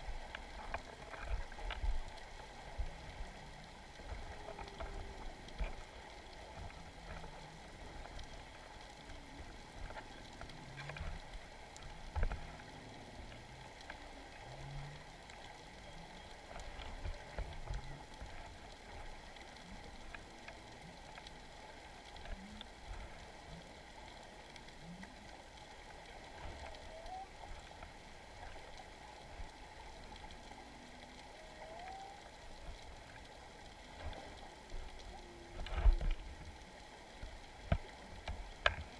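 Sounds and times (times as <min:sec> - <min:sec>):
faint clicks: 0:00.0 - 0:38.9
low underwater rumble: 0:00.0 - 0:38.9.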